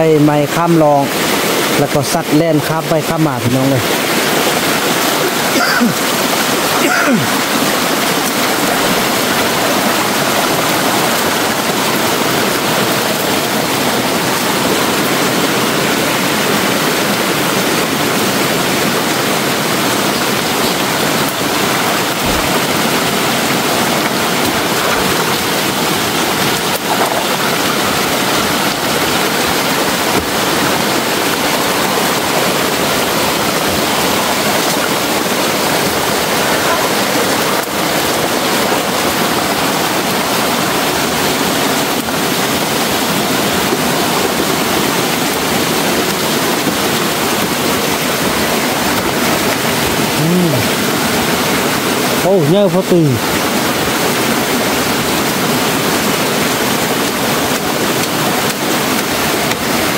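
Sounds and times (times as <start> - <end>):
stream of running water: 0.0 - 59.9.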